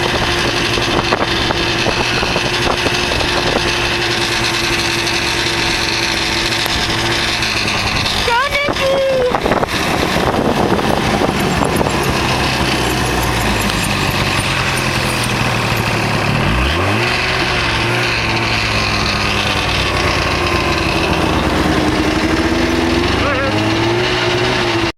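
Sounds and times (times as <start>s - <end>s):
snowmobile engine revving: 0.0s - 24.9s.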